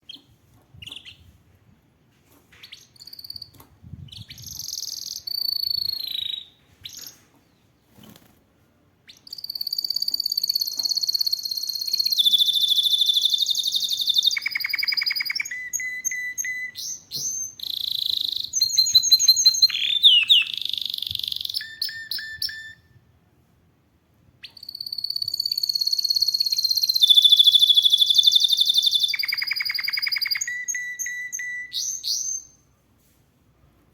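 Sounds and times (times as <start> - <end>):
canary singing: 0.0 - 1.3, 2.6 - 7.2, 9.1 - 22.9, 24.4 - 32.6.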